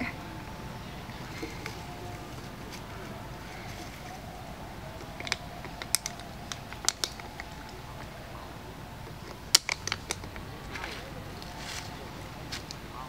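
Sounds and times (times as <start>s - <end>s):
plastic bottle crackling: 1.1s - 8.1s, 9.0s - 12.8s.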